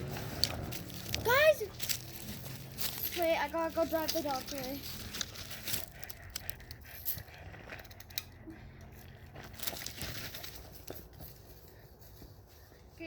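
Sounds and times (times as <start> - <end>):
small clicks and crackles: 0.1 - 11.1.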